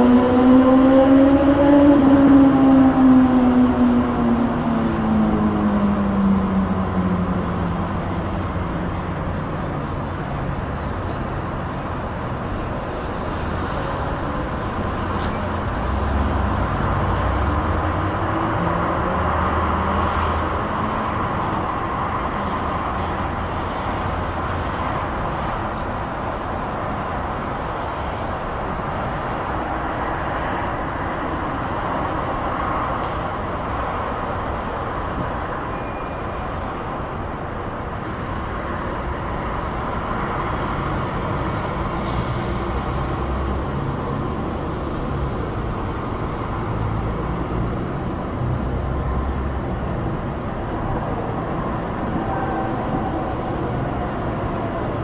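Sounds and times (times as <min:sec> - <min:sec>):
distant motorway traffic: 0:00.0 - 0:55.0.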